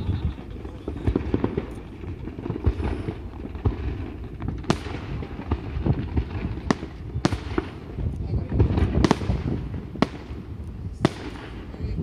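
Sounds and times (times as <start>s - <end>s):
fireworks cracking and popping: 0.0s - 12.0s.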